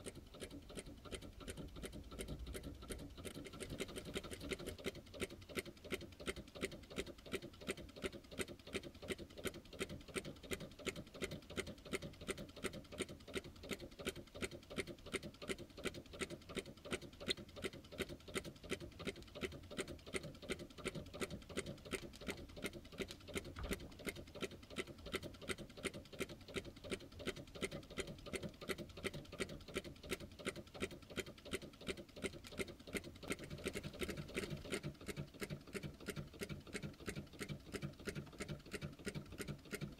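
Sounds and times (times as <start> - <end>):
small engine ticking: 0.0 - 39.9.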